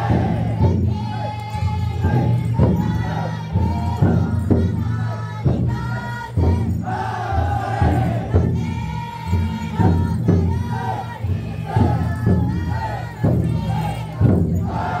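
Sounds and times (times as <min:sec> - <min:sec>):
crowd chanting and shouting: 0:00.0 - 0:15.0
taiko drum beats: 0:00.0 - 0:15.0.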